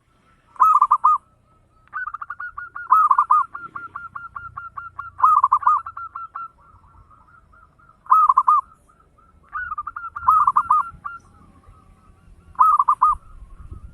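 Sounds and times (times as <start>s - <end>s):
dove cooing: 0.2s - 13.9s.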